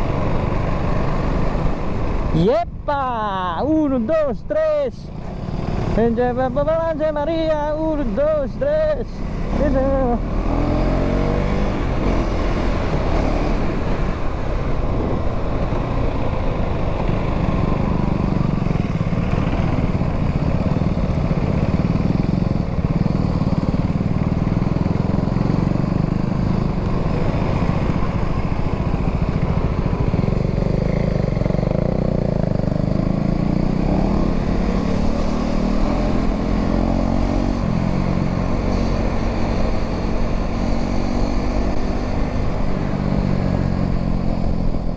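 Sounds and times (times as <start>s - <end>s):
motorcycle engine running: 0.0s - 2.4s, 5.1s - 44.9s.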